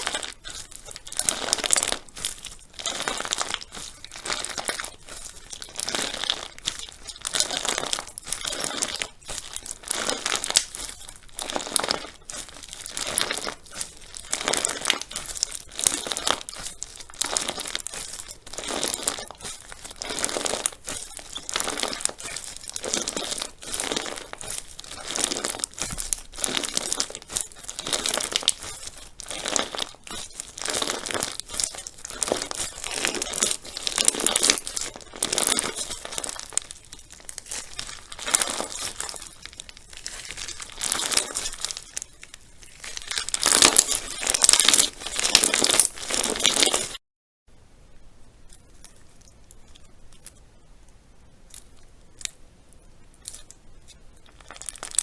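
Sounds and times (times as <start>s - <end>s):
crunchy slime being squished: 0.0s - 47.0s, 51.4s - 55.0s.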